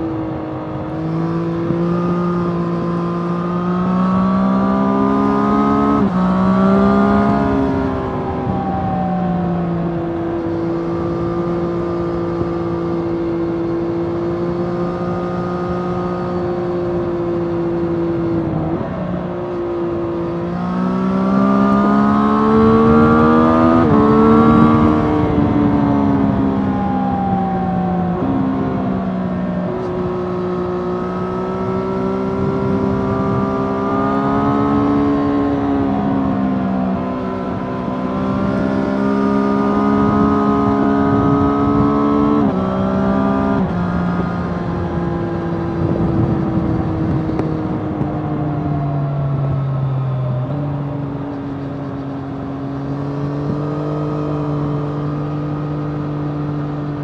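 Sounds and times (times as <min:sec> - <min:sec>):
motorcycle engine at speed: 0:00.0 - 0:57.0
wind rush on microphone: 0:00.0 - 0:57.0.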